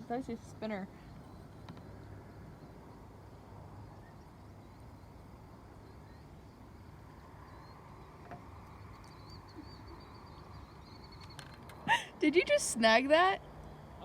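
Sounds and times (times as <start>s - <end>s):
faint bird chirps: 0.0s - 12.1s.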